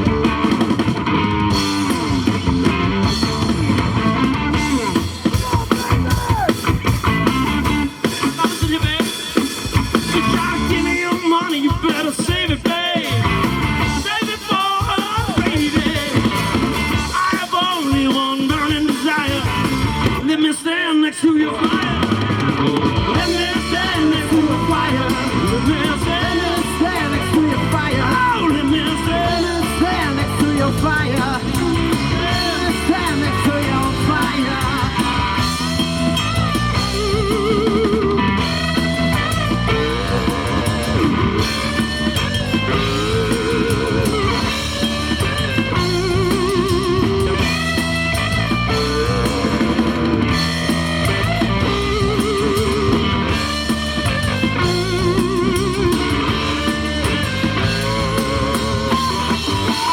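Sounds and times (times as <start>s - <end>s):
bass guitar: 0.0s - 20.4s, 21.2s - 59.9s
electric guitar lead with bent notes: 0.0s - 20.4s, 21.4s - 59.9s
drum kit: 0.0s - 20.7s, 21.3s - 59.9s.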